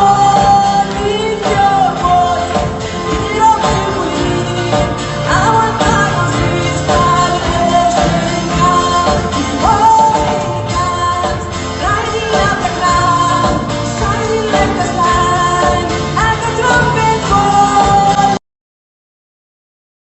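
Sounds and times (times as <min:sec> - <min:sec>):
instrumental accompaniment: 0:00.0 - 0:18.4
person singing: 0:00.0 - 0:18.4.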